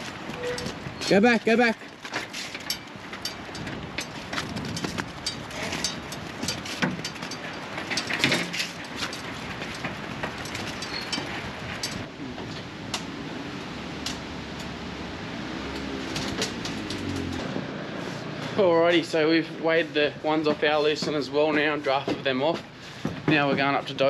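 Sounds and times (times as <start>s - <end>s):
hooves knocking metal panels: 0.0s - 17.6s, 19.9s - 24.0s.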